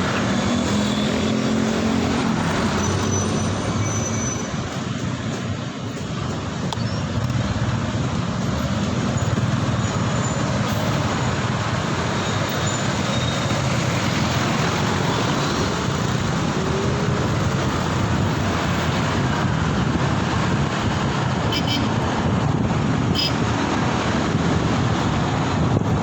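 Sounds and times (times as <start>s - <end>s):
road and traffic rumble: 0.0s - 26.0s
wind and tyre hiss: 0.0s - 26.0s.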